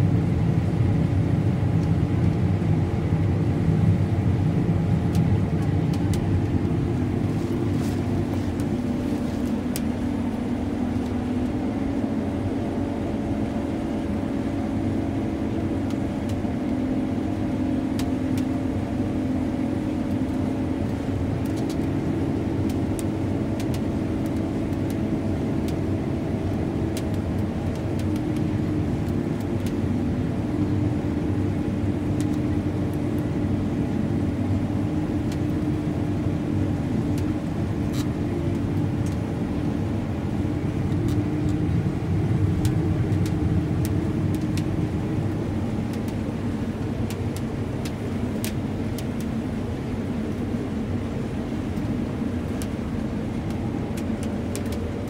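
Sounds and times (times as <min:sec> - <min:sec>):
combine harvester engine drone: 0:00.0 - 0:55.0
steady low hum: 0:00.0 - 0:55.0.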